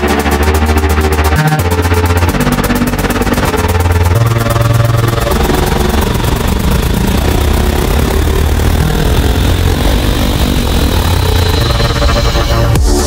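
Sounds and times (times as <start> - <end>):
droning bass: 0.0 - 13.0
rushing noise wash: 0.0 - 13.0.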